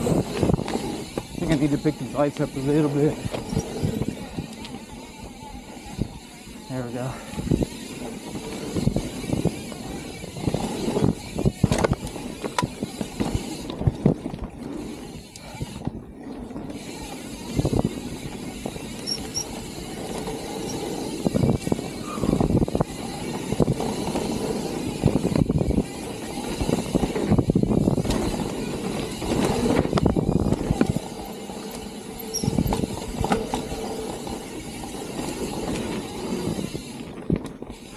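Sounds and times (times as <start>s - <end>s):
bike knocking and rattling: 0.0s - 37.9s
bike tyres rolling on dirt: 0.0s - 37.9s.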